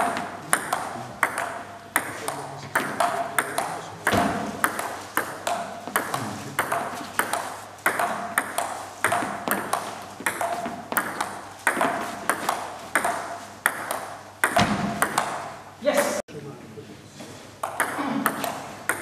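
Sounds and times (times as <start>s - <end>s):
table tennis ball clicking: 0.0s - 15.5s, 17.6s - 19.0s.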